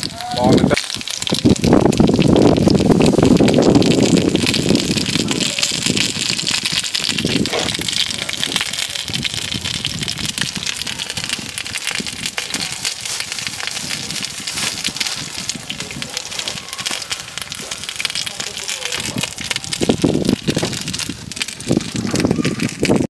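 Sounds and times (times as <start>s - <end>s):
faint voices: 0.0s - 1.2s, 4.4s - 6.2s, 7.3s - 23.0s
cakes sizzling in oil: 0.0s - 23.0s.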